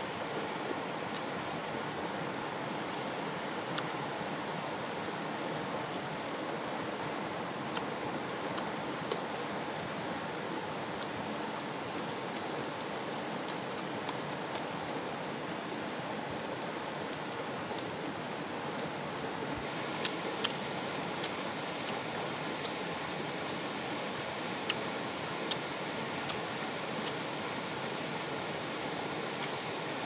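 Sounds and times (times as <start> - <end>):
stream flowing over rocks: 0.0 - 30.0.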